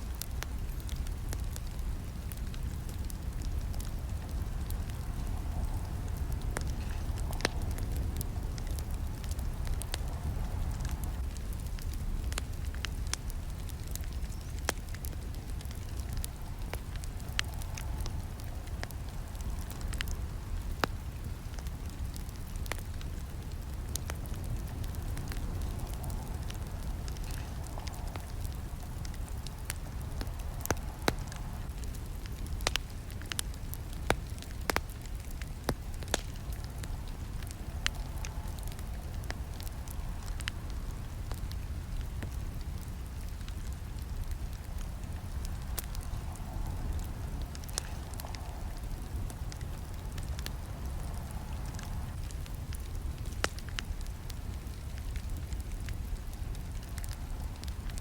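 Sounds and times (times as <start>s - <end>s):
campfire crackling and snapping: 0.0s - 58.0s.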